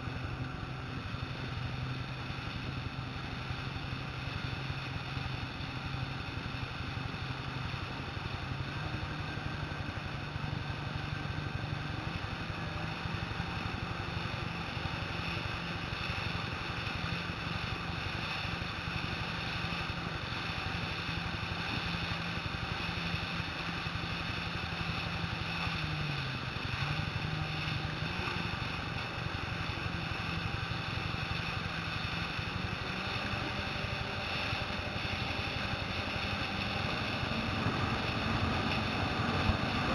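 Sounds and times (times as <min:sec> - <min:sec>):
jet ski engines running: 0:00.0 - 0:39.9
rush of water and air: 0:00.0 - 0:39.9.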